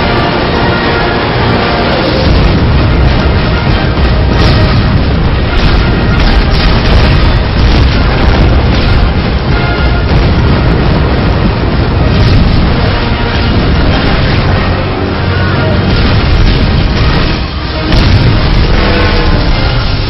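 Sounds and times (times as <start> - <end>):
explosions and fireworks booming: 0.0 - 20.0
loud music: 0.0 - 20.0.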